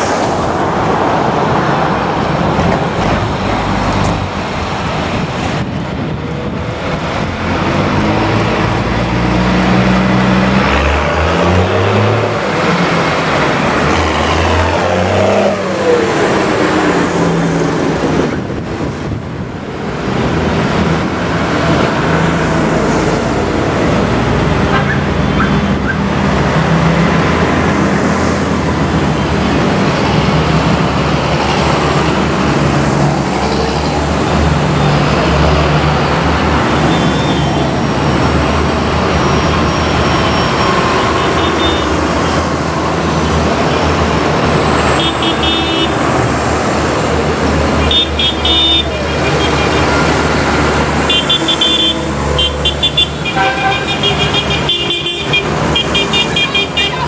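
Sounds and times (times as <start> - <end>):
diesel engines running loud: 0.0 - 57.0
tractors driving past: 0.0 - 57.0.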